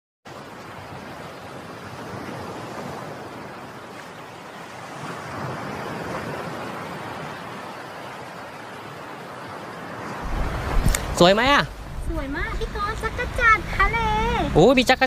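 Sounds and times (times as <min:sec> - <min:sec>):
surf washing onto beach: 0:00.3 - 0:15.0.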